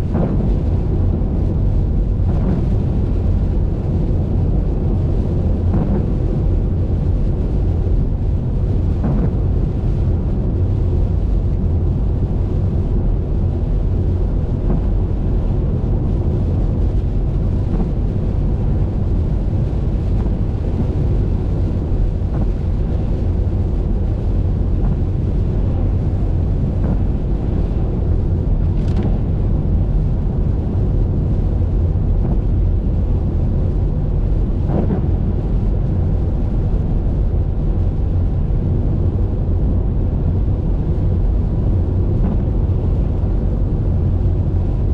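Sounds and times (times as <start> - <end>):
road and wind noise: 0.0 - 44.9.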